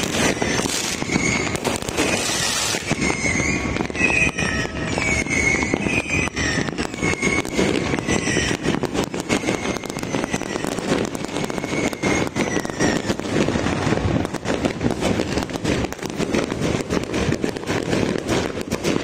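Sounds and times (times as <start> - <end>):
fireworks crackling and banging: 0.0 - 19.0
rockets whistling: 0.0 - 19.0.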